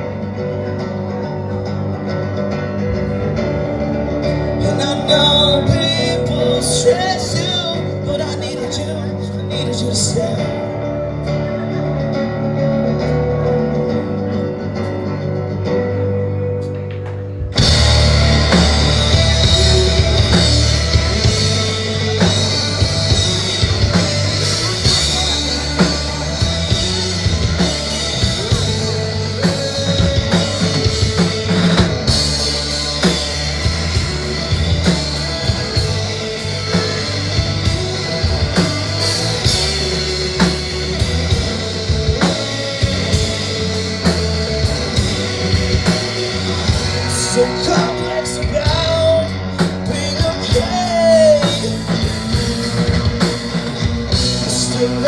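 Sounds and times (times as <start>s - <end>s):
instrumental rock band: 0.0s - 55.0s.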